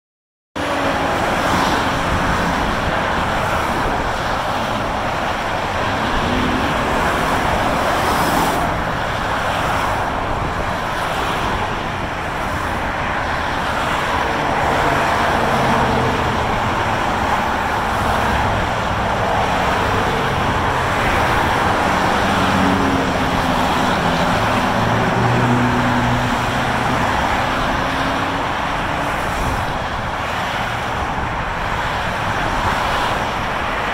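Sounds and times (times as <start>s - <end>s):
heavy freeway traffic: 0.6s - 33.9s.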